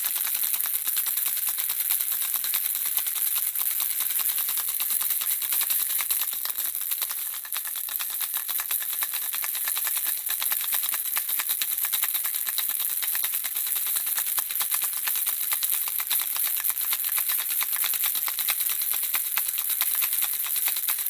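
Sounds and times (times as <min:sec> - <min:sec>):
baby rattle shaken: 0:00.0 - 0:21.0.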